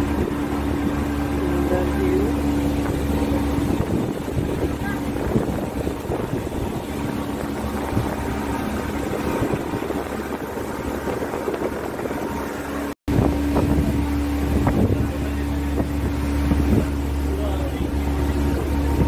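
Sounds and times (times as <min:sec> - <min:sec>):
boat engine running: 0:00.0 - 0:19.0
wind and water noise: 0:00.0 - 0:19.0.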